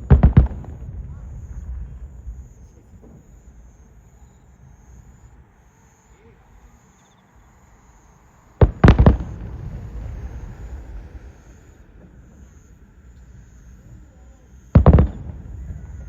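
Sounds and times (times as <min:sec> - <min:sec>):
fireworks bursting: 0:00.0 - 0:05.4, 0:07.9 - 0:16.0
low background rumble: 0:00.0 - 0:16.0.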